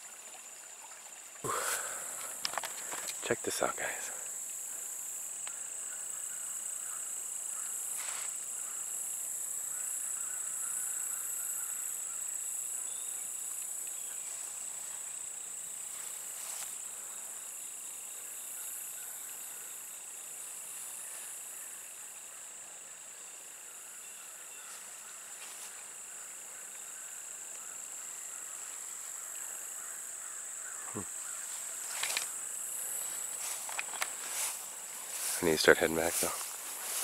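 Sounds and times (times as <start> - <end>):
crickets trilling: 0.0 - 37.0
fainter lower insect trill: 0.0 - 37.0.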